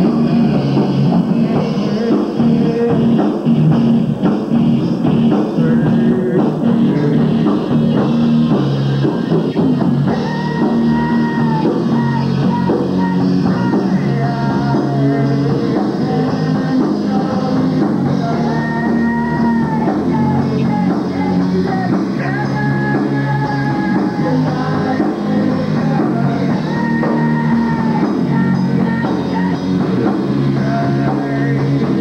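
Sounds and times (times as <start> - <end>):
live rock band playing: 0.0 - 32.0
singer holding long notes: 0.0 - 32.0.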